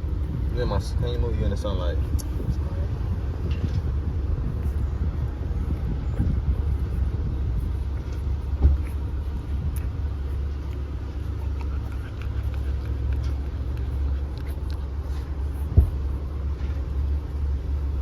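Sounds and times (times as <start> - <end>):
road rumble inside car: 0.0 - 18.0.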